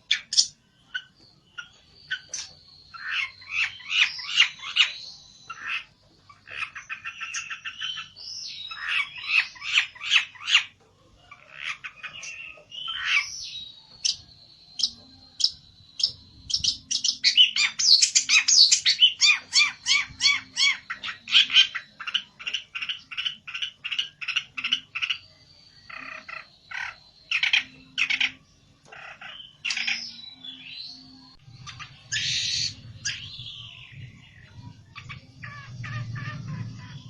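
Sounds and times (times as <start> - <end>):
songbird chirping: 0.0 - 37.0.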